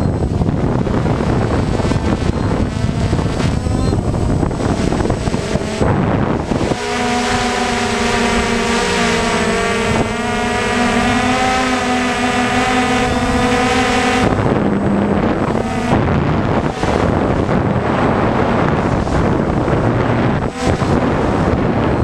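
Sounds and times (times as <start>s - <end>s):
drone propellers humming: 0.0s - 22.0s
wind noise on microphone: 0.0s - 22.0s.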